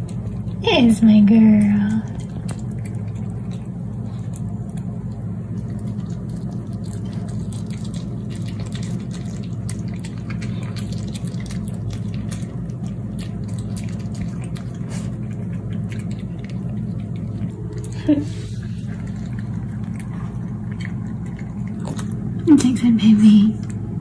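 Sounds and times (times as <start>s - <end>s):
dog chewing food: 0.0s - 24.0s
steady low hum: 0.0s - 24.0s.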